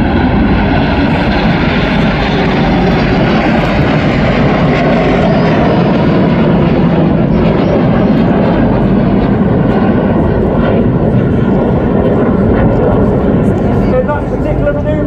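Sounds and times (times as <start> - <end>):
jets flying overhead: 0.0 - 15.0.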